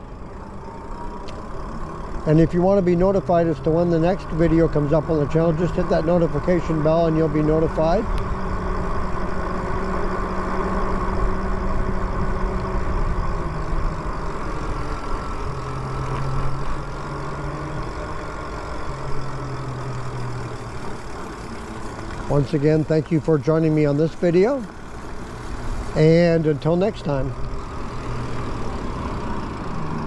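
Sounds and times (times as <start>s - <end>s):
low motor hum: 0.0s - 30.0s
road noise: 0.0s - 30.0s.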